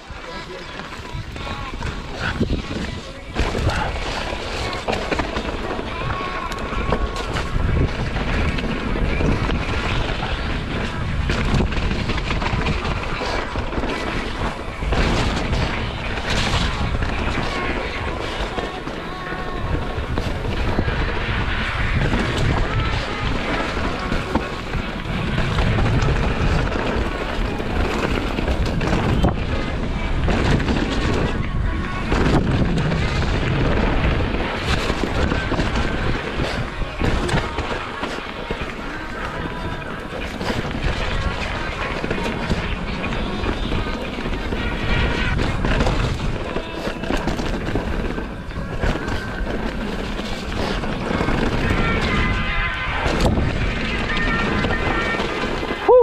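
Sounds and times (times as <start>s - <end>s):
mountain bike rattling: 0.0s - 56.0s
wind buffeting microphone: 0.0s - 56.0s.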